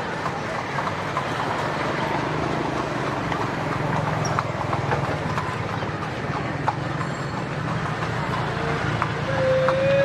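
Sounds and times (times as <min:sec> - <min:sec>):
horse hooves clip-clopping: 0:00.0 - 0:10.0.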